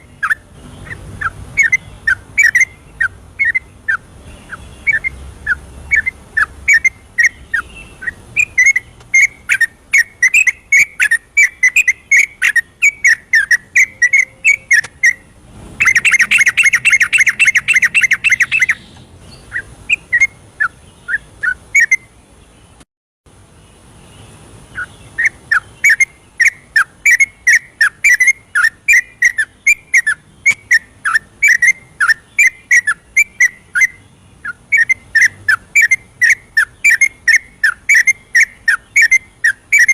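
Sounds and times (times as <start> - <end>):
bird rapid chattering: 0.0 - 22.0, 24.7 - 39.9.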